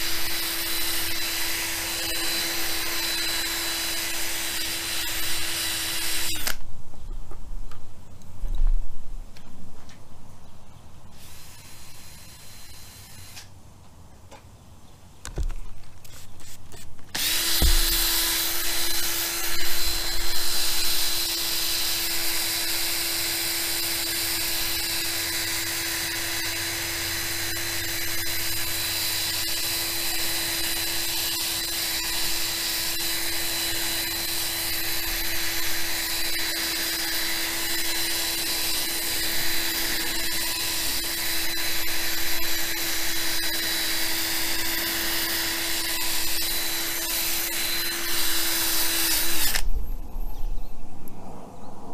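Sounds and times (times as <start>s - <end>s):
electric drill running: 0.0s - 6.6s, 11.2s - 13.5s, 16.4s - 49.9s.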